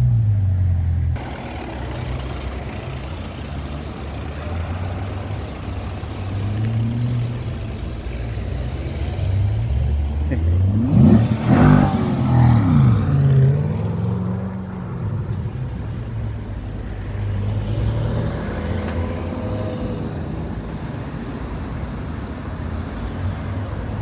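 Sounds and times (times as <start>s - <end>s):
road noise: 0.0s - 24.0s
car engine pulling away: 0.1s - 20.1s.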